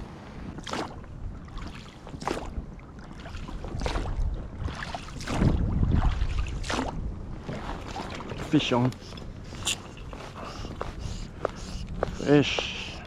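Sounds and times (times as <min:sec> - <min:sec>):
wind rumble on microphone: 0:00.0 - 0:13.0
oars splashing through water: 0:00.4 - 0:13.0.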